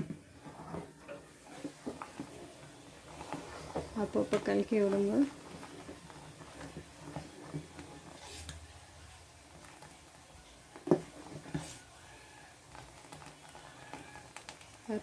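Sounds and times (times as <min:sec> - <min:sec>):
spoon stirring in pot: 0:00.0 - 0:15.0.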